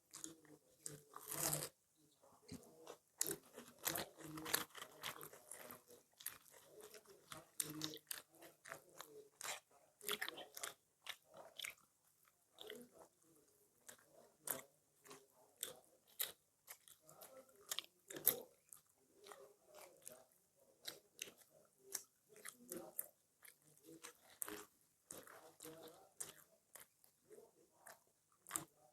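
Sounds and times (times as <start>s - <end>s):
people chewing food: 0.0s - 28.9s.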